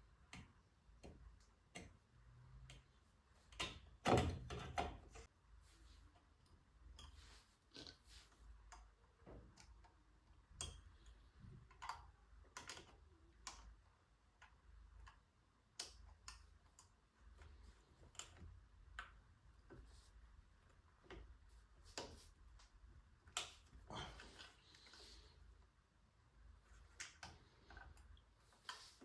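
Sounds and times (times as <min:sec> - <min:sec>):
light clicks and taps on metal parts: 0:00.0 - 0:25.8, 0:26.4 - 0:29.0.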